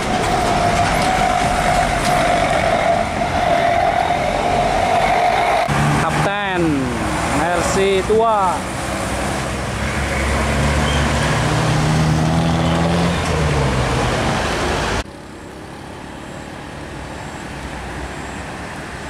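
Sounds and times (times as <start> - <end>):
road traffic: 0.0 - 19.0
truck diesel engine passing: 0.0 - 19.0.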